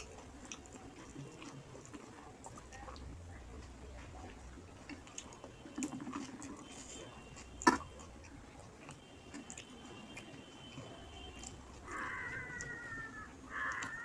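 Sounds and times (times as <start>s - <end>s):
person chewing food: 0.0s - 3.1s, 4.8s - 14.0s.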